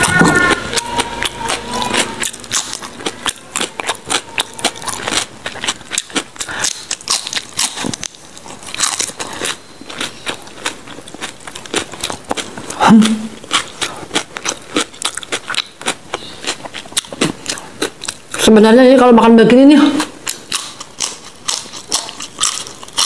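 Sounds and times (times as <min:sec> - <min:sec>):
chewing crunchy vegetables: 0:00.0 - 0:19.1, 0:19.9 - 0:23.0.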